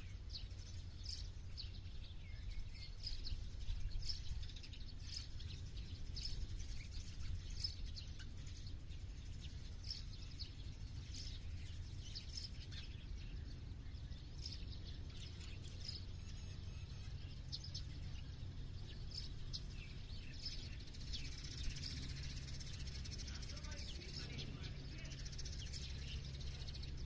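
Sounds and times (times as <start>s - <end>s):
low background rumble: 0.0s - 27.0s
small birds chirping: 0.0s - 27.0s.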